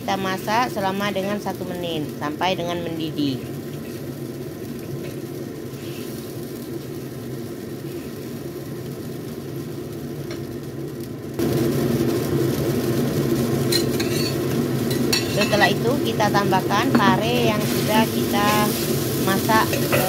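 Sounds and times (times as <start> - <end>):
food sizzling in a wok: 0.0 - 20.0
gas stove flame rumble: 0.0 - 20.0.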